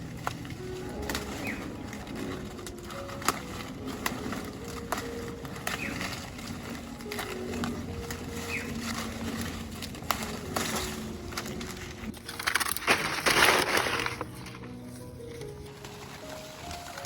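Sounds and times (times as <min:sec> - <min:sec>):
leafy plants crackling and rustling: 0:00.0 - 0:17.0.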